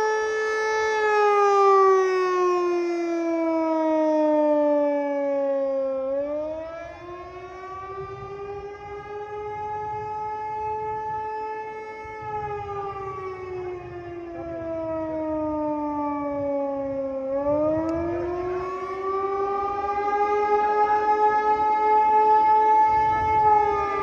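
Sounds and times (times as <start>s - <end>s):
wailing warning siren: 0.0s - 24.0s.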